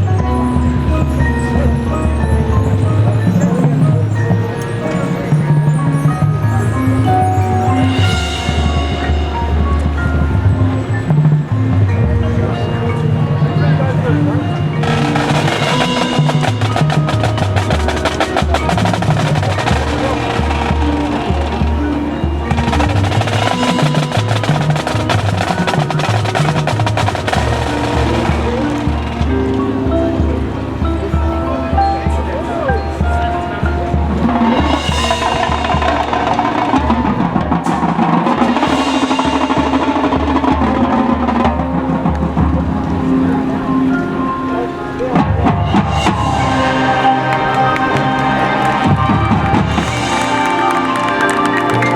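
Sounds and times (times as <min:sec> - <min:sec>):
rapid drum strokes: 0:00.0 - 0:43.7, 0:45.0 - 0:51.9
pitched mallet notes: 0:00.0 - 0:51.9
sustained wind chords: 0:00.0 - 0:51.9.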